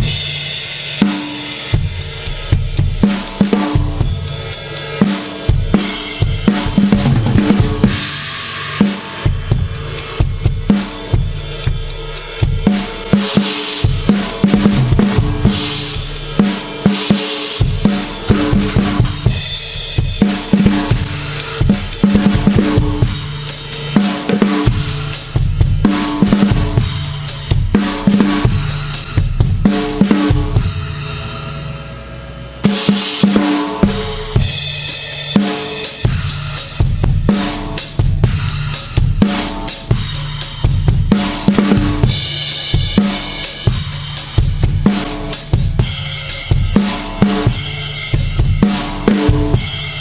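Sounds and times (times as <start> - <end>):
cymbal crash ringing: 0.0 - 50.0
drum kit groove: 0.0 - 50.0.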